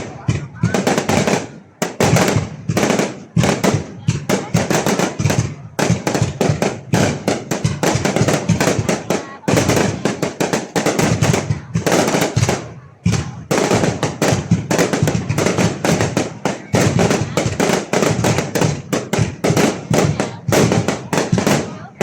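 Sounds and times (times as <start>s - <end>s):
fireworks banging: 0.0s - 22.0s.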